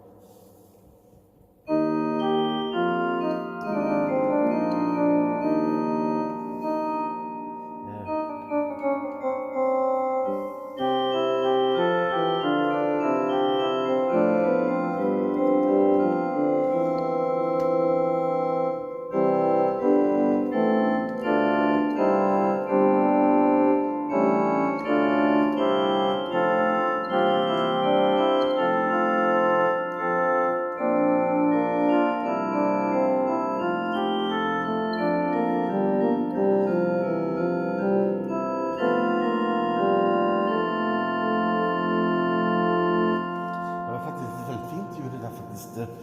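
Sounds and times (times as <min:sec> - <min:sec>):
keyboard organ chords and melody: 0:01.7 - 0:46.0.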